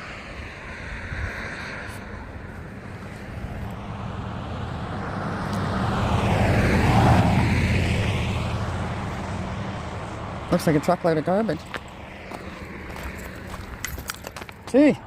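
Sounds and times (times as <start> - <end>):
road vehicle driving past: 0.0 - 14.4.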